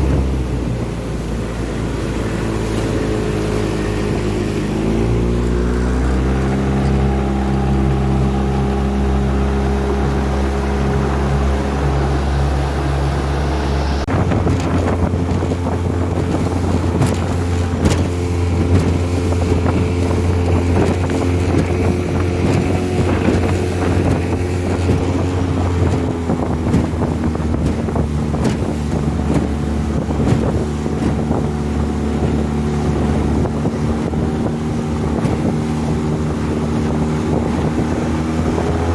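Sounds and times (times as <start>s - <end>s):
outboard motor running: 0.0s - 38.9s
wind on microphone: 0.0s - 38.9s.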